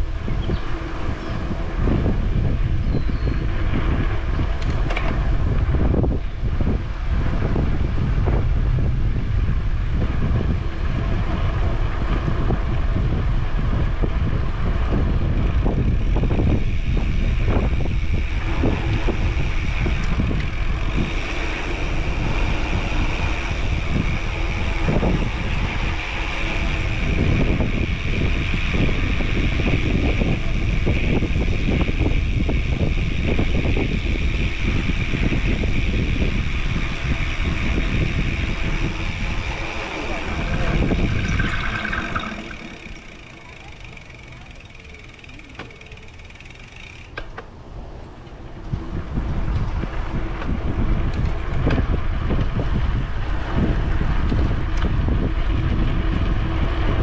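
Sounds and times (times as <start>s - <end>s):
tyre noise on asphalt: 0.0s - 57.0s
wind buffeting microphone: 0.0s - 57.0s.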